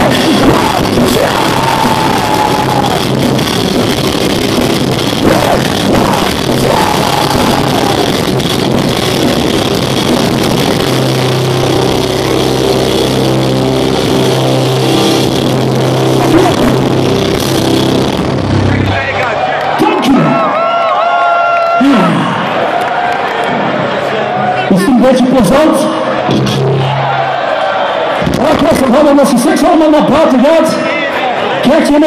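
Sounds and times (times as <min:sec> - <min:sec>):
loud live rock band: 0:00.0 - 0:32.0.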